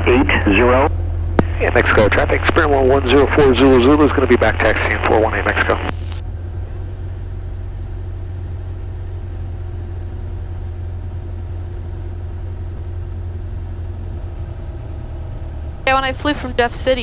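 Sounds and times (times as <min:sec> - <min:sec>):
aircraft piston engine droning: 0:00.0 - 0:17.0.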